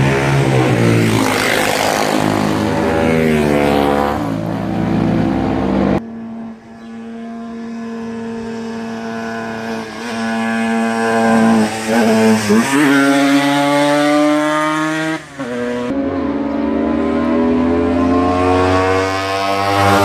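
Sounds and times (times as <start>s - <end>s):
racing motorcycle engines: 0.0s - 20.0s.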